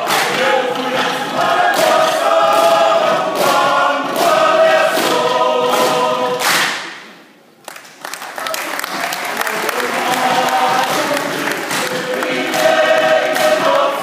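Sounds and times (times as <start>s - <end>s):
group singing in chorus: 0.0s - 6.8s, 9.3s - 14.0s.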